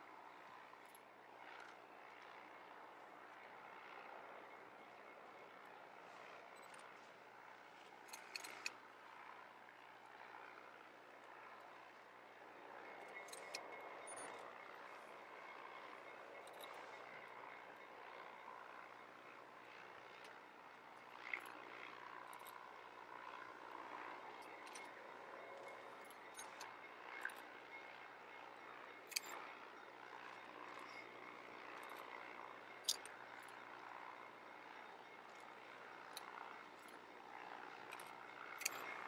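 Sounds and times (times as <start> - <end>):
distant diesel locomotive drone: 0.0 - 39.0.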